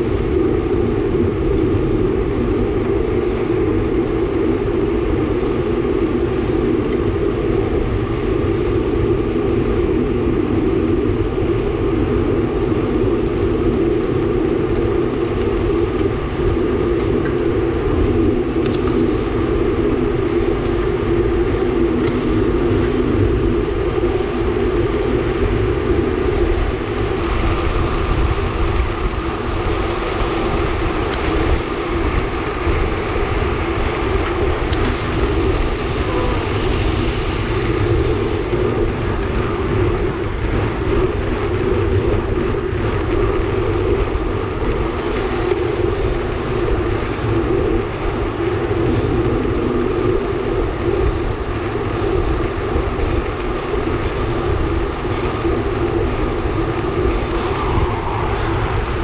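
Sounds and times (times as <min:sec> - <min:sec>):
bicycle tyre noise: 0:00.0 - 0:59.0
low rumble: 0:00.0 - 0:59.0
wind rushing: 0:00.0 - 0:59.0.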